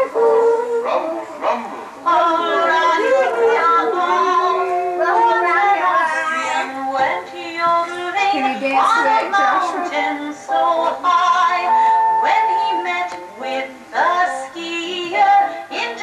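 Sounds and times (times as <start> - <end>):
overlapping voices singing held notes: 0.0 - 16.0.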